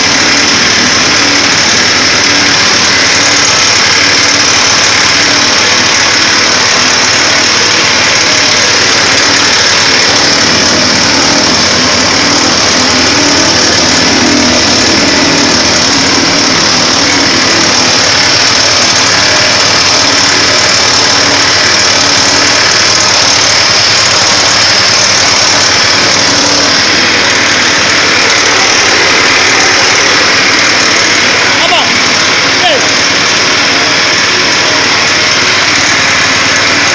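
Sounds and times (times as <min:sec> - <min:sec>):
press machine mechanical drone: 0:00.0 - 0:36.9.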